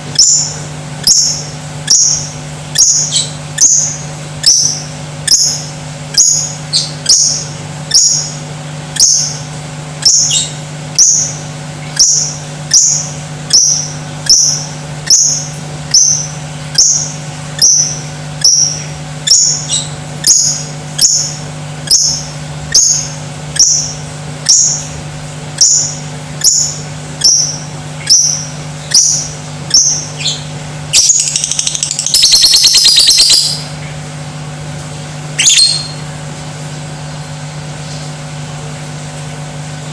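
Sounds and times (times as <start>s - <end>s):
steady low hum: 0.0s - 39.9s
bird calling and trilling: 0.1s - 8.4s, 9.0s - 33.9s, 35.4s - 36.1s.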